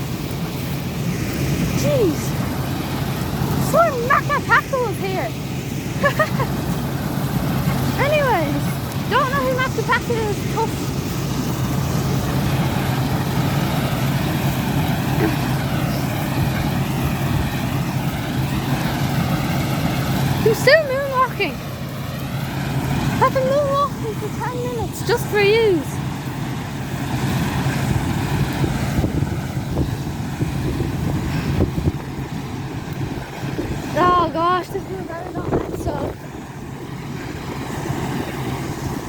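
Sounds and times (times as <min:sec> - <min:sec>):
combine harvester engine drone: 0:00.0 - 0:39.0
wind buffeting microphone: 0:00.0 - 0:39.0.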